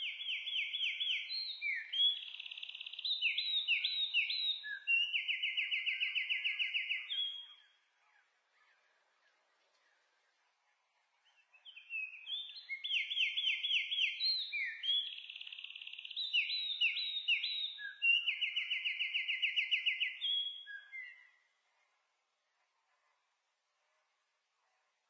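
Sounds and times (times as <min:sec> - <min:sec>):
songbird singing chirps and trills: 0:00.0 - 0:25.0.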